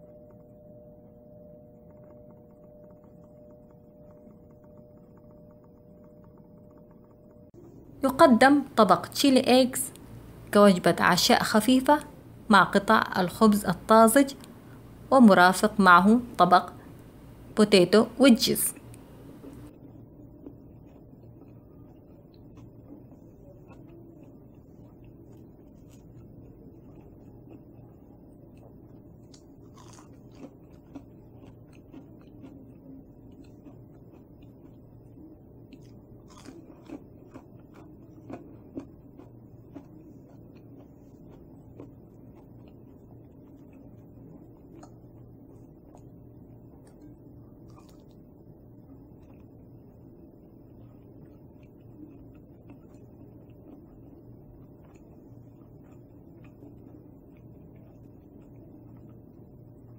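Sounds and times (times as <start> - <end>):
faint room hum: 0.0 - 59.9.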